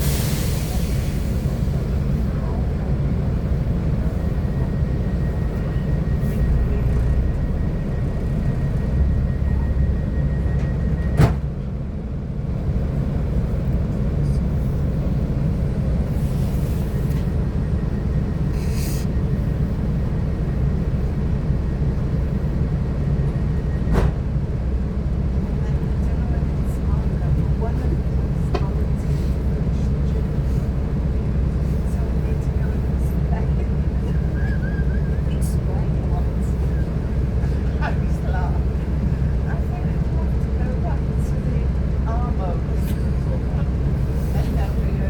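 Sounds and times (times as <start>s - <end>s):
train interior rumble: 0.0s - 45.0s.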